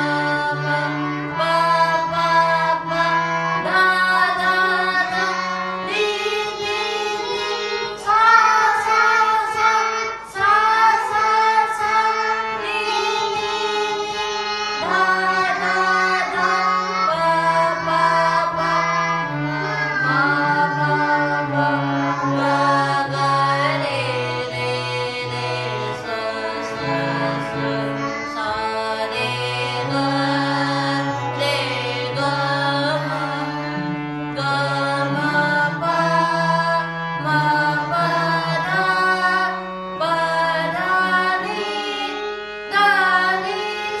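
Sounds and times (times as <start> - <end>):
children singing: 0.0 - 44.0
harmonium holding notes: 0.0 - 44.0.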